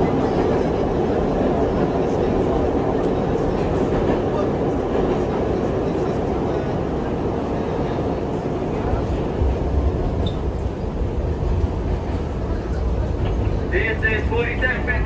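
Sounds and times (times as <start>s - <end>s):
subway car wheels rumbling on rail: 0.0s - 15.0s.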